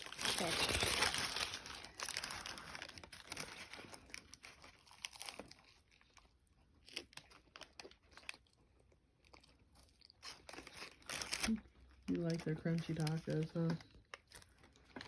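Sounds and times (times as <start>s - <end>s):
taco shell crunching: 0.0s - 15.0s.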